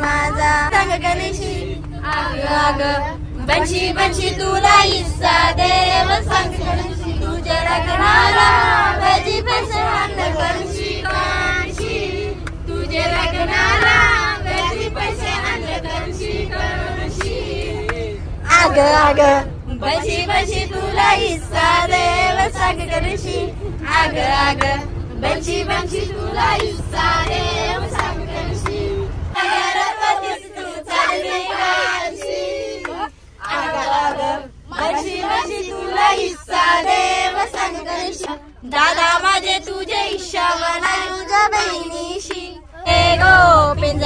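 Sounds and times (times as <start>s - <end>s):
people singing together: 0.0s - 44.0s
vehicle rumble: 0.0s - 44.0s.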